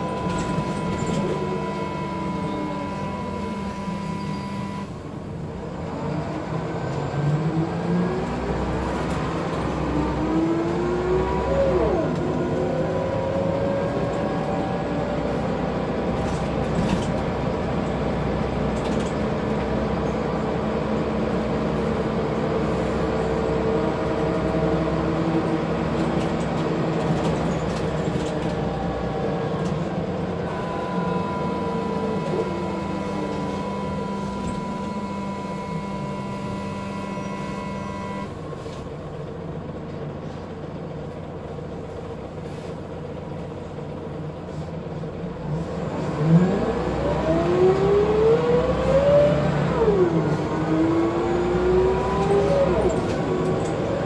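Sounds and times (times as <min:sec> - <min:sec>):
bus engine and transmission: 0:00.0 - 0:54.0.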